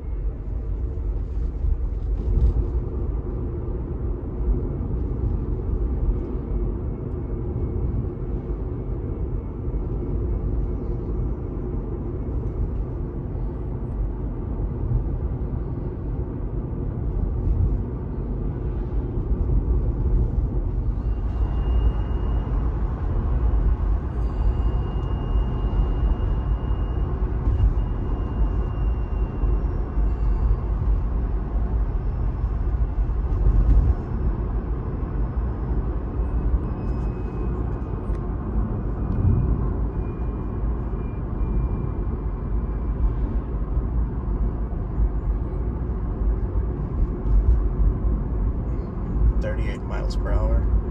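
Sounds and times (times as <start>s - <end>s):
road rumble: 0.0s - 50.9s.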